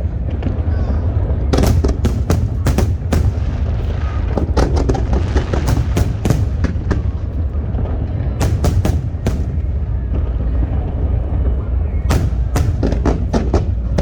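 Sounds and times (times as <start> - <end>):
fireworks bursting: 0.0 - 14.0
low rumble: 0.0 - 14.0.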